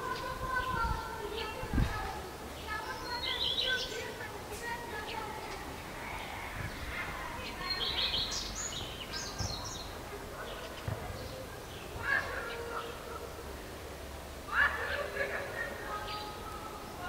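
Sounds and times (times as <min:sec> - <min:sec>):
songbirds chirping and trilling: 0:00.0 - 0:17.0
steady outdoor background: 0:00.0 - 0:17.0.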